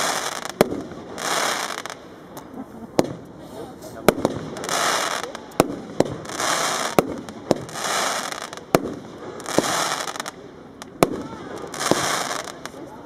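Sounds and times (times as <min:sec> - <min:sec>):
firework bangs: 0:00.0 - 0:13.0
firework crackling hisses: 0:00.0 - 0:13.0.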